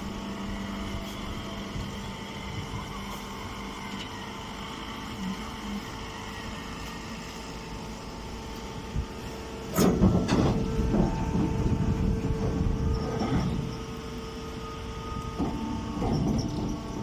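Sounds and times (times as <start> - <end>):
baler machine humming: 0.0 - 17.0.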